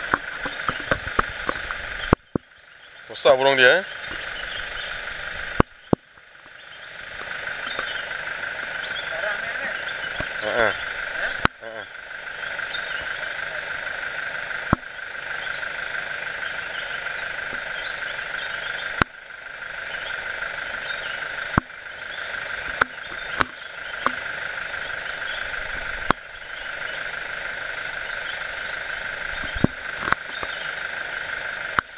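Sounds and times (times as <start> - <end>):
insects droning: 0.0 - 31.9.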